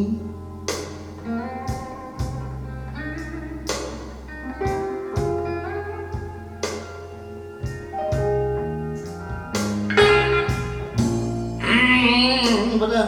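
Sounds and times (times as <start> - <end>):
blues music over loudspeakers: 0.0 - 13.0.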